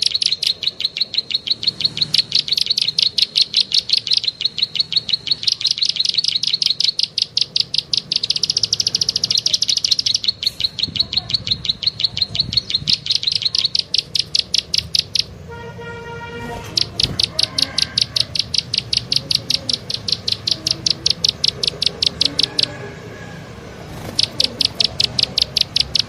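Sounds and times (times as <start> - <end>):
rapid high chirps: 0.0 - 15.5, 16.4 - 26.0.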